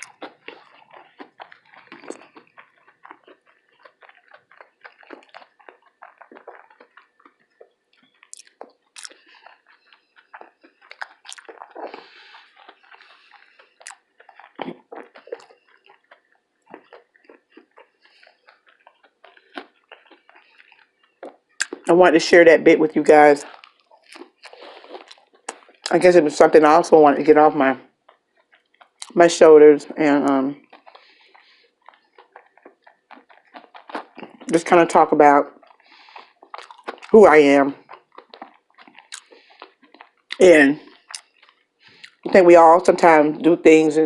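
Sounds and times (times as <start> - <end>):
mouth smacks: 0.0 - 22.0, 23.4 - 26.0, 27.8 - 29.2, 30.3 - 34.6, 35.4 - 42.3
person chewing crunchy fried food: 0.0 - 43.6.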